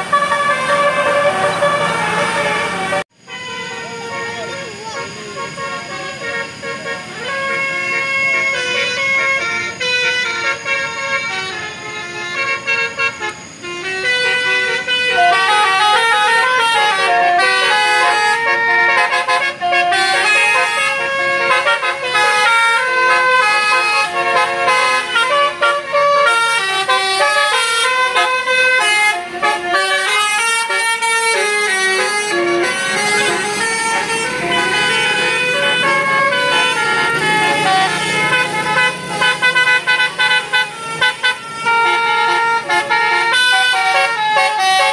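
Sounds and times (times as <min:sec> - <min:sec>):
bus musical horn tune: 0:00.0 - 0:44.9.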